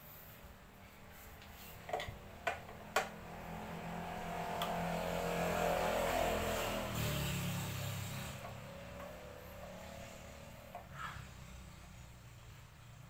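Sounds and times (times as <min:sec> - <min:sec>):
engine hum: 0:00.9 - 0:13.0.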